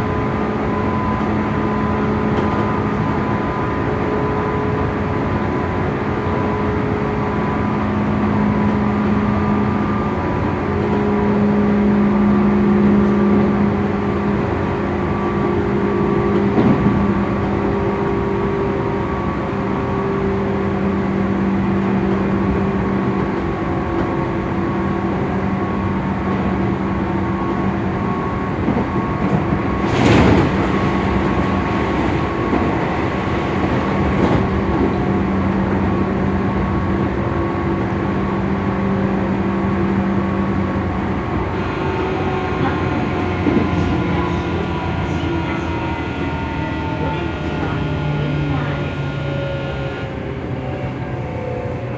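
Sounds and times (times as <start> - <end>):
electric train humming tones: 0.0 - 51.9.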